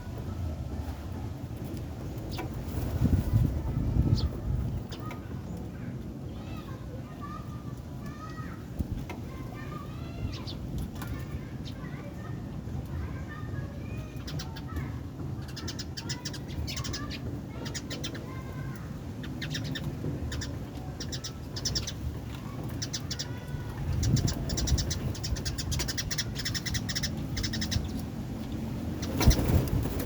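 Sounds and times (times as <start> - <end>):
birds chirping and calling: 3.4 - 8.4, 9.0 - 30.0.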